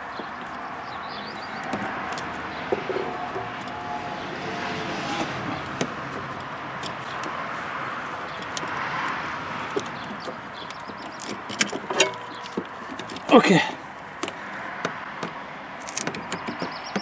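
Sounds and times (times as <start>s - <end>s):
background hiss of traffic: 0.0s - 17.0s.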